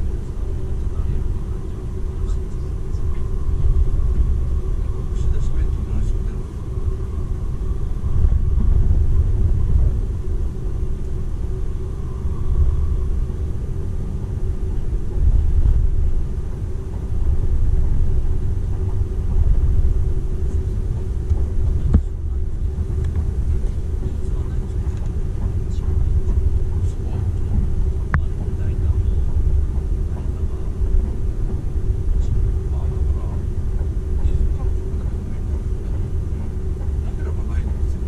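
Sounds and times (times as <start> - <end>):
faint steady hum: 0.0 - 38.0
train wheels rumbling on rail: 0.0 - 38.0.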